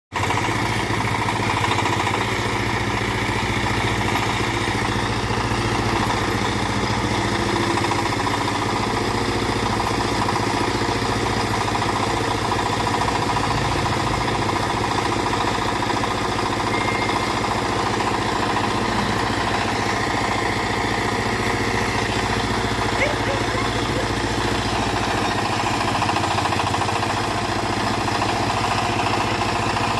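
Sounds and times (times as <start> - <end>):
engine running steadily: 0.2 - 29.9.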